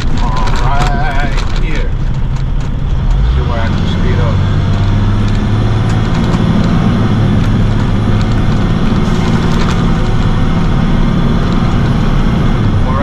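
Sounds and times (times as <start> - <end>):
road and wind noise: 0.0 - 13.0
truck engine drone: 0.0 - 13.0.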